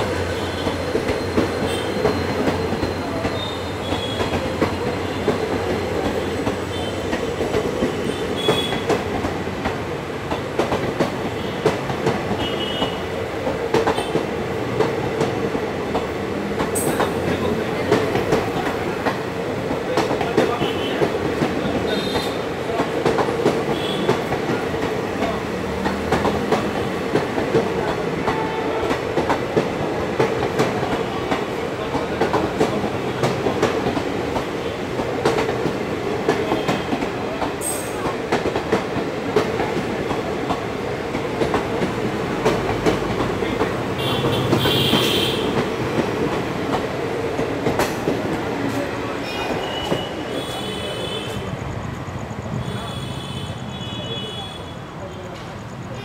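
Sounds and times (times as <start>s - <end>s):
wheels clacking over rail joints: 0.0s - 51.8s
train wheels rumbling on rails: 0.0s - 56.0s.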